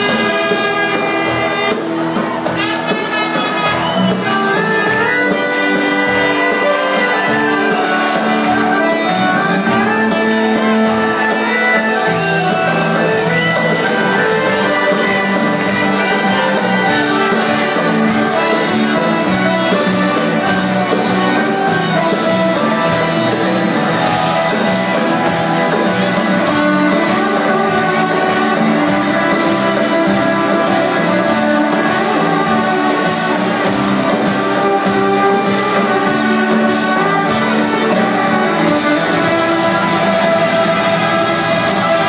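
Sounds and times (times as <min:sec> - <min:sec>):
crowd shouting: 0:00.0 - 0:42.0
live band with guitar: 0:00.0 - 0:42.0.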